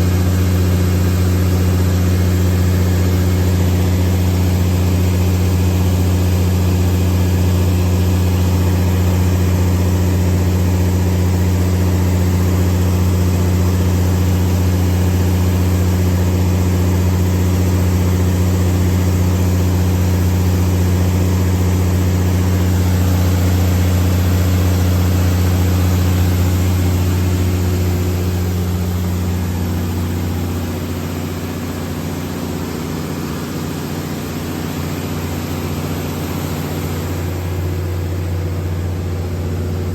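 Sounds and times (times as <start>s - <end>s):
diesel generator engine humming: 0.0s - 39.9s.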